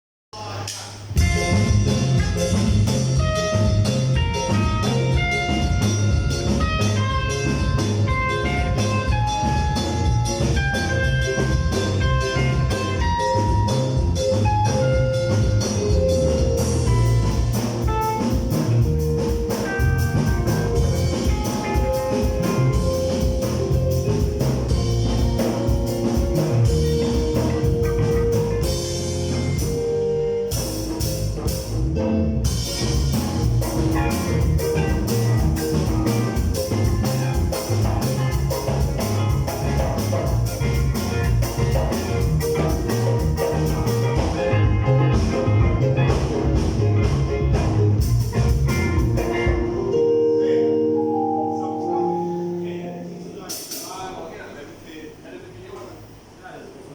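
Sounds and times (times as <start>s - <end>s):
music with drums and steady beat: 1.0s - 50.1s, 53.4s - 54.2s.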